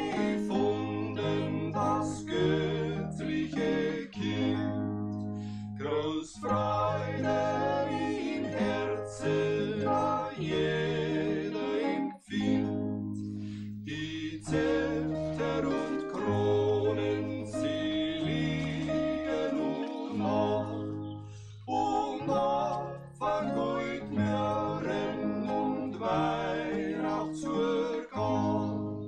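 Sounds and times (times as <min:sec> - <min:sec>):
plucked-string accompaniment: 0:00.0 - 0:29.0
voices singing in harmony: 0:00.0 - 0:29.0.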